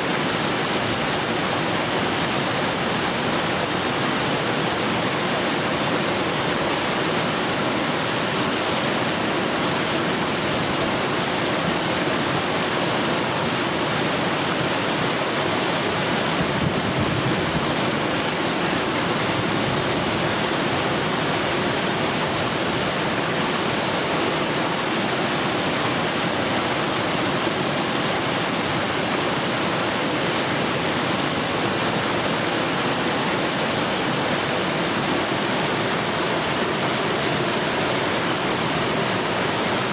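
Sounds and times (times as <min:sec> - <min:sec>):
river rapids roaring: 0:00.0 - 0:39.9.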